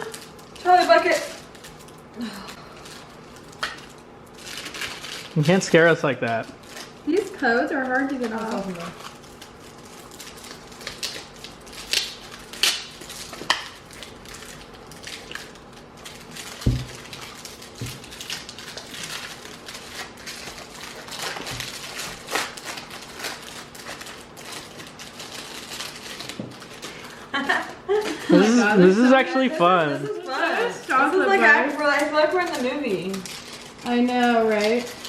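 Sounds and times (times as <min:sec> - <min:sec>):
wrappers crinkling: 0:00.0 - 0:28.6, 0:29.6 - 0:35.0.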